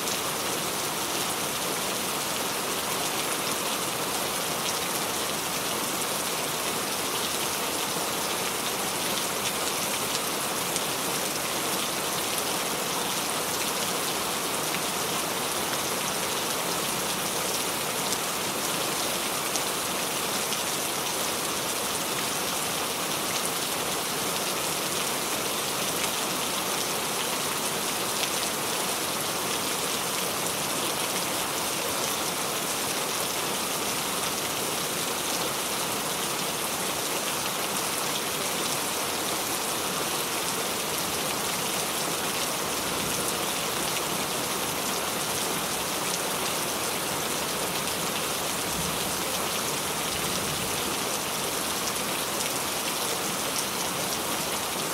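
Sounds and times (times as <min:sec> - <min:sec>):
rain pattering on a surface: 0:00.1 - 0:54.9.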